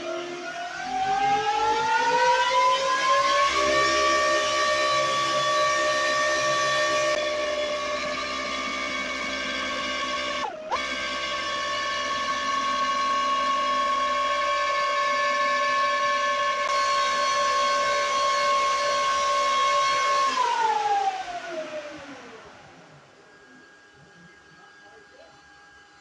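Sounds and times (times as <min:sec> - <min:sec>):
electric ducted fan whining: 0:00.0 - 0:26.0.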